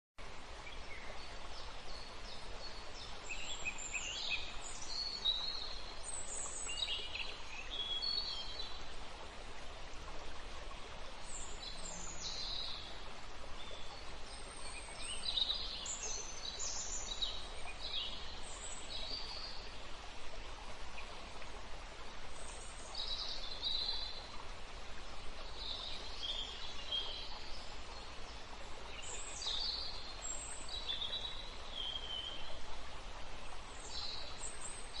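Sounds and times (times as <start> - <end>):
steady background hiss: 0.2 - 35.0.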